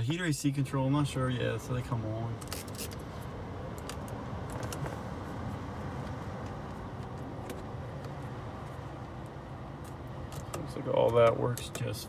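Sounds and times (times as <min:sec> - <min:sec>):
car blower fan rushing air: 0:00.6 - 0:12.0.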